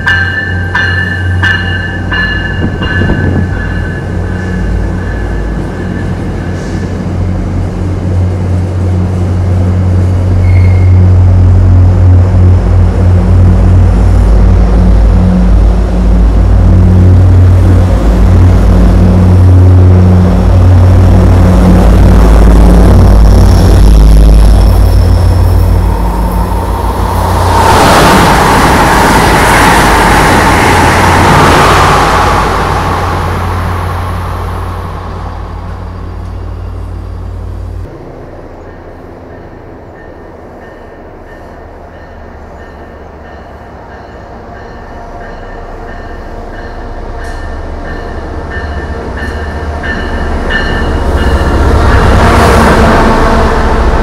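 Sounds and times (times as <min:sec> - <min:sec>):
train approaching: 0:00.0 - 0:54.0
train passing rumble: 0:00.0 - 0:54.0.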